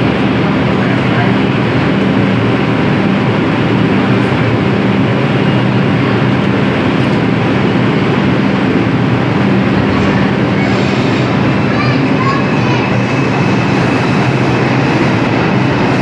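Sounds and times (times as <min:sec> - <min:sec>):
subway car air conditioning hum: 0:00.0 - 0:16.0.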